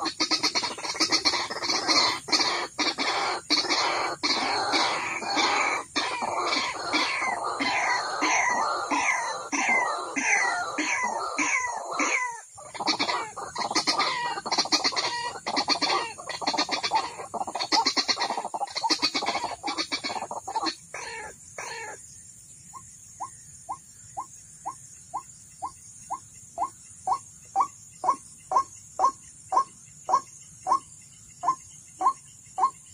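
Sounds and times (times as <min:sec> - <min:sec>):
waterhen croaking calls: 0:00.0 - 0:22.0, 0:22.7 - 0:32.9.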